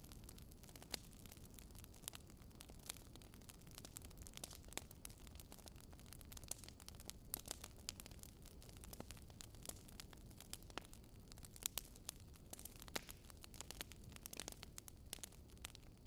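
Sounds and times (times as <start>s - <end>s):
campfire crackling: 0.0s - 16.0s
low rumble of fire: 0.0s - 16.0s.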